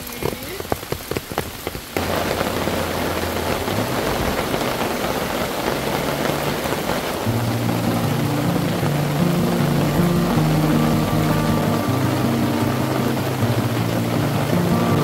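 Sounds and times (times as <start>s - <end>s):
rain falling on a tarp: 0.0s - 15.0s
low music notes: 2.0s - 15.0s.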